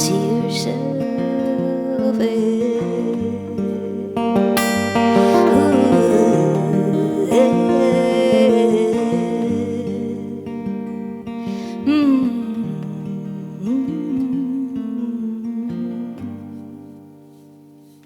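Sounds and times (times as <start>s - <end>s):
person singing wordless notes: 0.0s - 16.9s
acoustic guitar chords: 0.0s - 18.0s.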